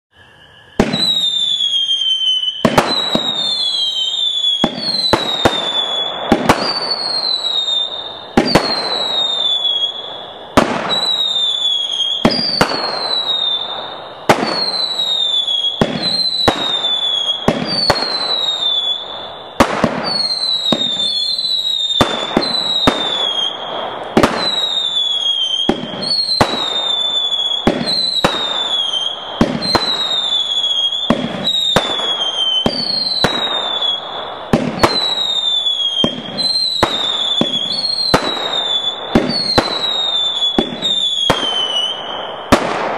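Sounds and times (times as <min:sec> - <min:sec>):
falling firework whistle: 0:00.1 - 0:42.9
firework shots popping: 0:00.8 - 0:42.9.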